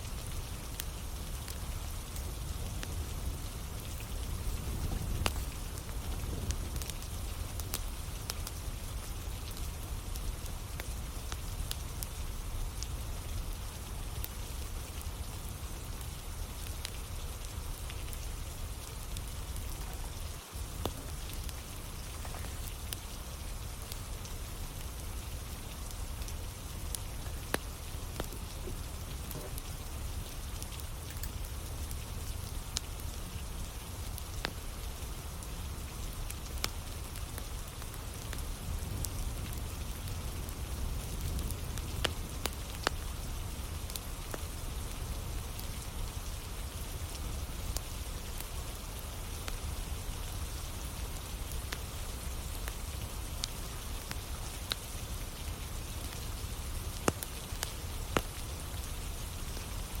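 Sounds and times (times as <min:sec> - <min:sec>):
campfire crackling: 0:00.0 - 1:00.0
steady rain: 0:00.0 - 1:00.0.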